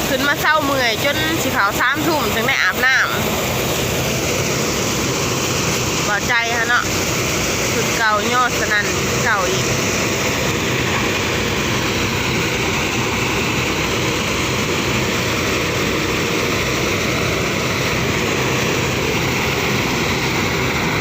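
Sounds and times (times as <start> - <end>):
threshing machine engine drone: 0.0 - 21.0.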